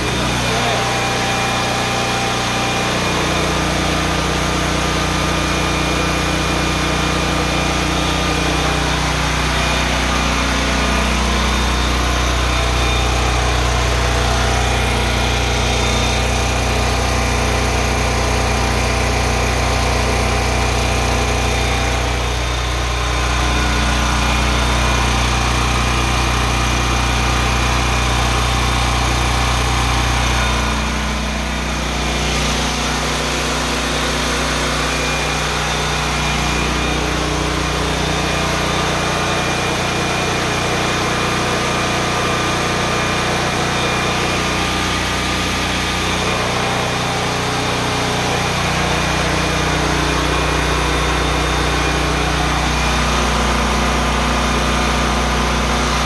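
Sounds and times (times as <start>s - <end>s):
generator running: 0.0s - 56.0s.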